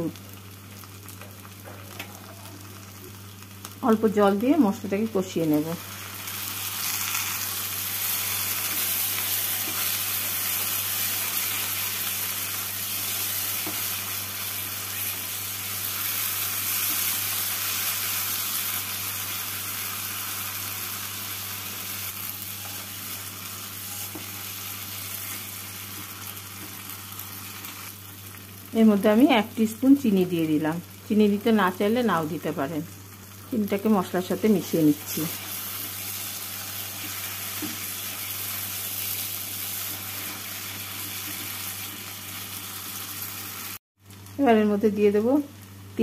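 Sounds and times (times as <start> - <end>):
masala sizzling in oil: 0.0 - 46.0.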